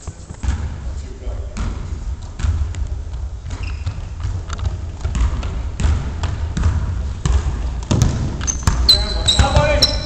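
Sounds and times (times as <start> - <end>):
basketball bouncing on hardwood floor: 0.3 - 10.0.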